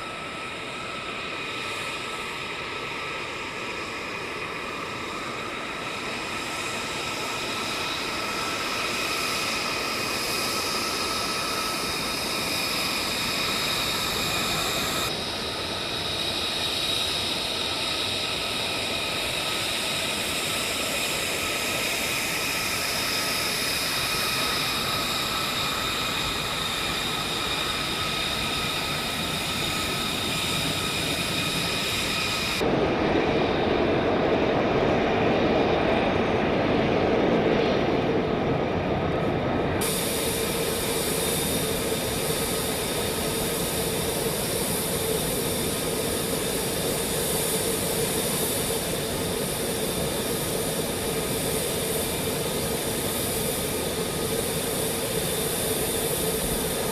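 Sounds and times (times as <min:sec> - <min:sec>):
jet engine whining: 0:00.0 - 0:56.9.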